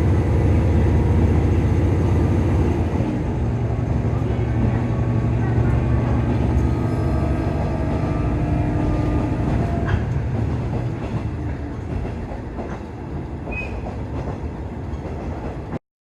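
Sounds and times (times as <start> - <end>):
train wheels clacking on rails: 0.0 - 15.8.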